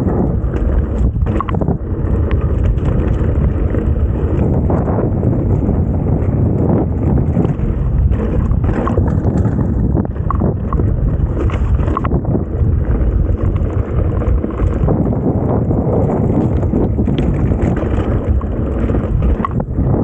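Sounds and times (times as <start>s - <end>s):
bike rattling and knocking: 0.0s - 20.0s
wind buffeting microphone: 0.0s - 20.0s.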